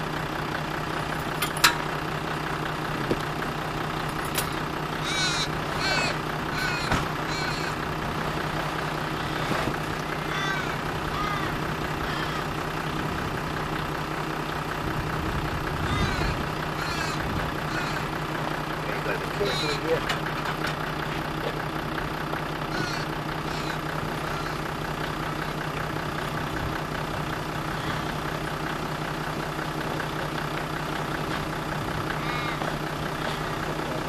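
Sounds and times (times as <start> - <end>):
engine idling: 0.0 - 34.0
birds calling: 0.2 - 34.0.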